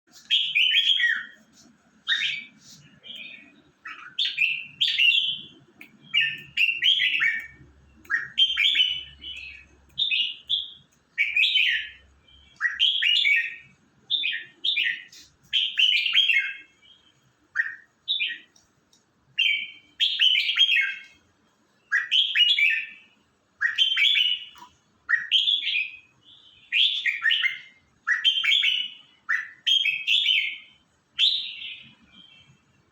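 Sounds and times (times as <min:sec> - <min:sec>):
songbird chirping: 0:00.1 - 0:32.9.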